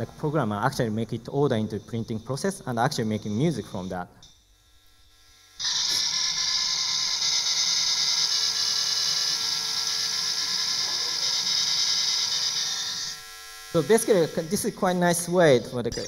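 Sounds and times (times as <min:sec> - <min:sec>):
line printer buzzing a tune: 0:01.5 - 0:16.0.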